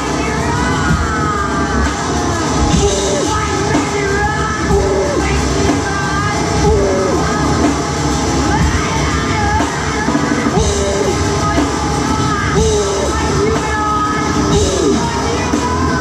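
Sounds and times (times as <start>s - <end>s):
bass guitar: 0.0s - 16.0s
drums: 0.0s - 16.0s
harsh-noise electronics: 0.0s - 16.0s.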